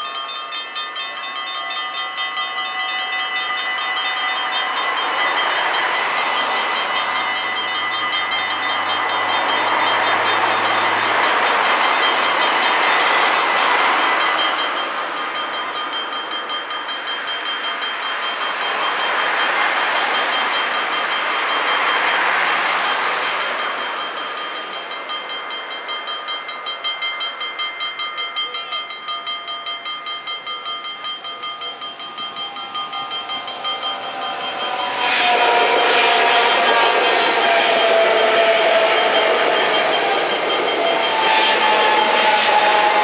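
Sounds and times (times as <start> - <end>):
train rushing past: 0.0 - 27.8, 29.8 - 43.0
level crossing bells ringing: 0.0 - 43.0.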